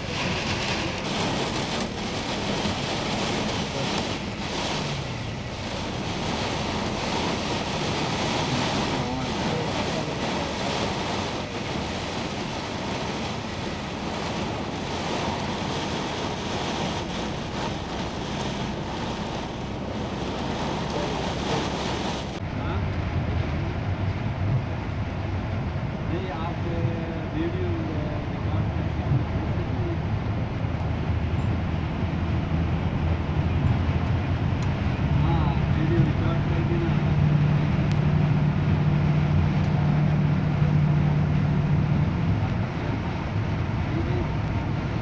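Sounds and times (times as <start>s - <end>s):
heavy rain and road spray: 0.0s - 45.0s.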